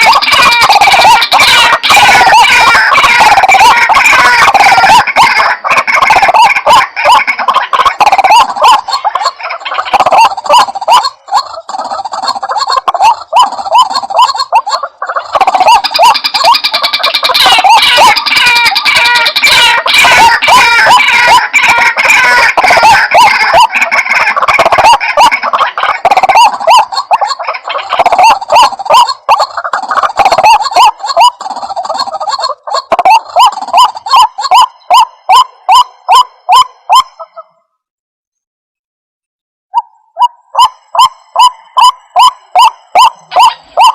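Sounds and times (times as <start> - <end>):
waterhen calling: 0.0 - 37.7, 39.7 - 43.9.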